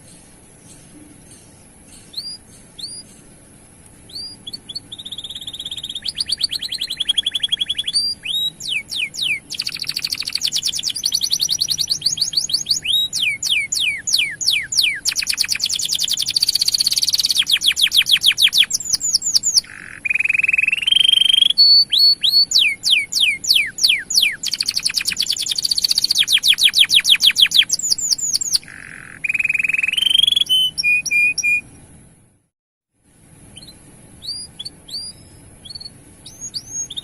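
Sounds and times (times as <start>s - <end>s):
canary singing trills: 0.0s - 3.4s, 4.0s - 31.9s, 33.5s - 37.0s.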